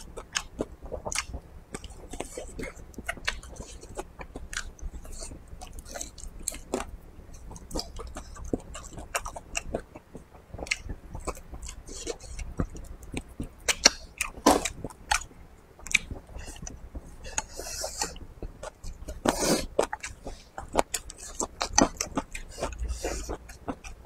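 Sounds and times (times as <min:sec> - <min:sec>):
chewing with wet mouth smacks: 0:00.0 - 0:24.0.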